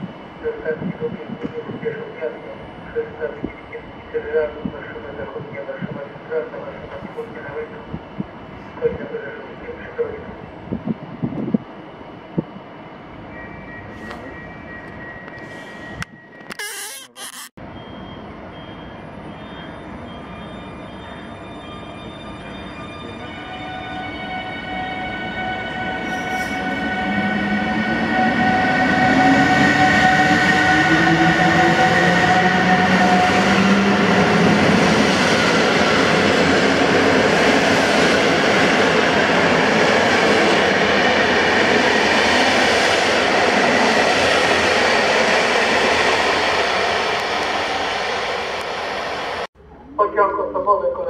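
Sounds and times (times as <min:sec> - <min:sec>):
electric locomotive whine: 0:06.6 - 0:16.6, 0:17.6 - 0:49.9.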